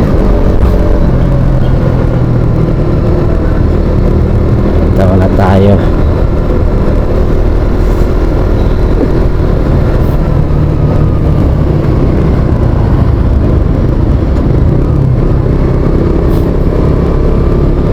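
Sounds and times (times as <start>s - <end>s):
motorcycle engine cruising: 0.0s - 17.9s
wind and road noise rumble: 0.0s - 17.9s.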